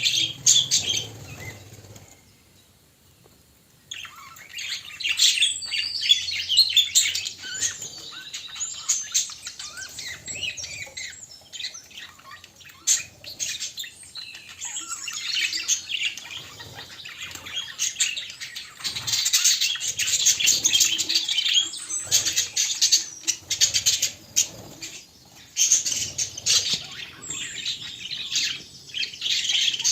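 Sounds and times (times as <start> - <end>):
budgerigars chattering and warbling: 0.0 - 2.1, 3.9 - 29.9.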